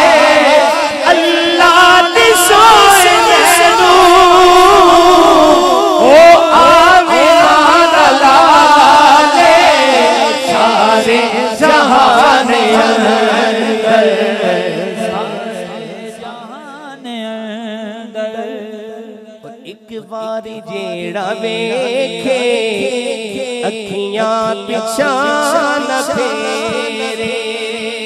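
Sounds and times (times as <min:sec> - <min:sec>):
men singing devotional chant: 0:00.0 - 0:28.0.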